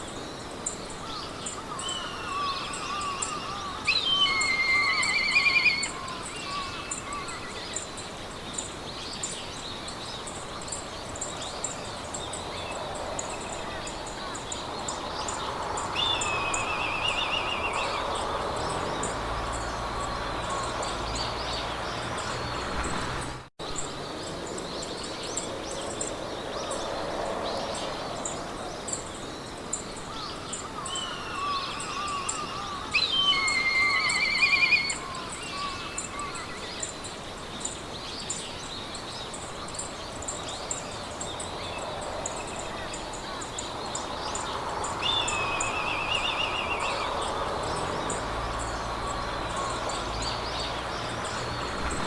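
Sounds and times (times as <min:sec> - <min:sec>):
birds singing: 0:00.0 - 0:52.0
wind hiss: 0:00.0 - 0:52.0.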